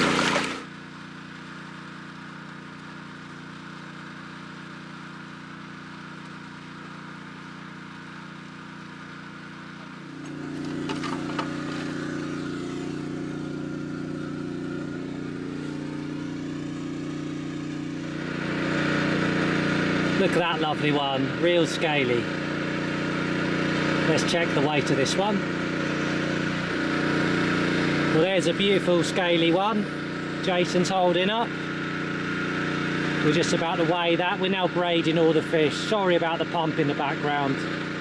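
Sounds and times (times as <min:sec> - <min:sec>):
engine-driven water pump humming: 0:00.0 - 0:38.0.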